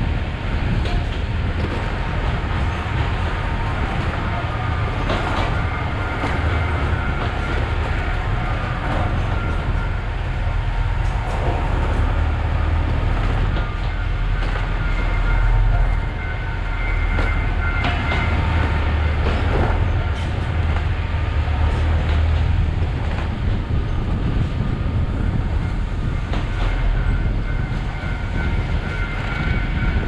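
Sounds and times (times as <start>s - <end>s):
diesel locomotive engine rumble: 0.0s - 30.0s
train wheels on rails: 0.0s - 30.0s.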